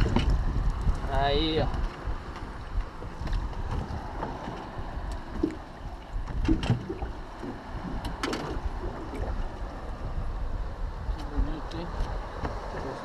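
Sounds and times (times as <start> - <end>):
water slapping a boat: 0.0 - 13.0
wind buffeting microphone: 0.0 - 13.0.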